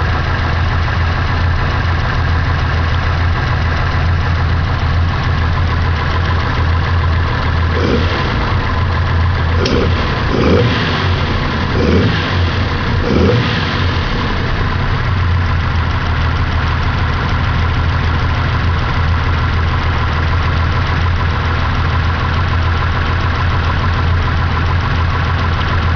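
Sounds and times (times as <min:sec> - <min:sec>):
car engine idling: 0:00.0 - 0:25.9
engine throttle blips: 0:00.0 - 0:25.9.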